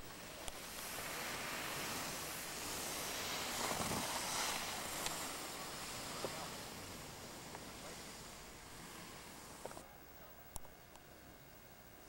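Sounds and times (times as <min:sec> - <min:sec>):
skis sliding over packed snow: 0:00.0 - 0:09.9.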